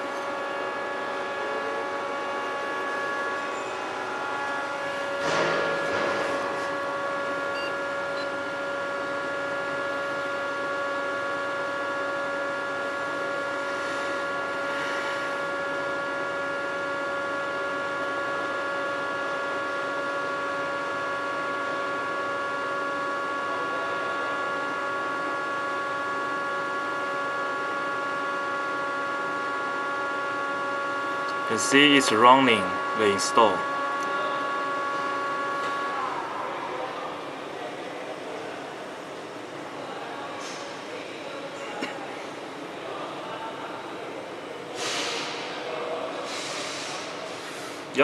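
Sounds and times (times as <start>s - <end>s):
machine electrical hum: 0.0s - 48.0s.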